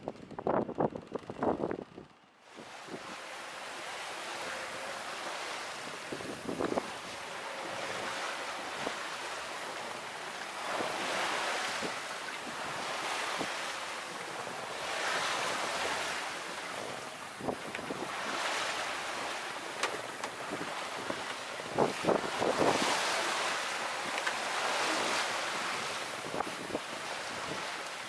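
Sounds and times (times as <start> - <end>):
wind buffeting the microphone: 0.0 - 3.2, 4.4 - 10.0, 10.6 - 28.0
sea water rushing past a hull: 2.4 - 28.0.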